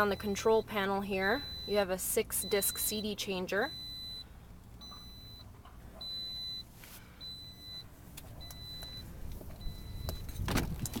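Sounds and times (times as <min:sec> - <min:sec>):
dashboard warning chime beeping: 0:00.0 - 0:11.0.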